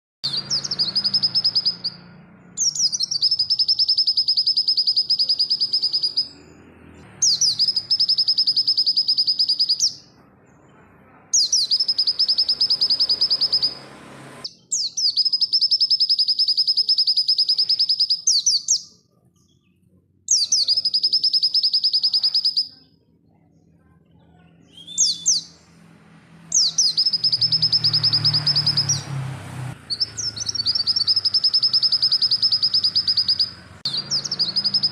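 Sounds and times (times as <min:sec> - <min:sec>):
bird singing high trills: 0:00.2 - 0:10.7, 0:11.3 - 0:23.7, 0:24.6 - 0:25.8, 0:26.4 - 0:34.9.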